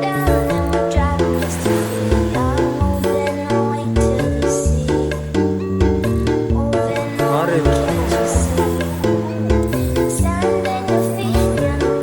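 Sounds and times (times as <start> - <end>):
background music with steady beat: 0.0 - 12.0
plucked string instruments: 0.0 - 12.0.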